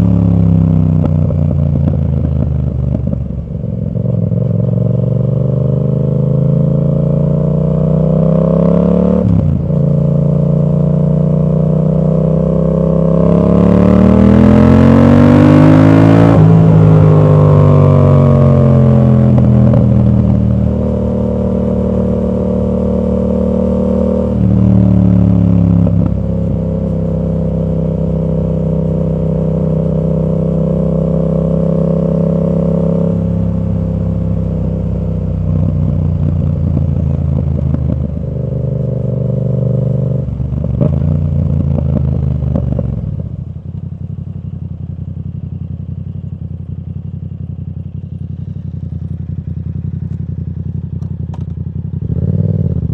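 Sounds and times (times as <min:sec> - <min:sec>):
motorcycle engine revving and idling: 0:00.0 - 0:52.9.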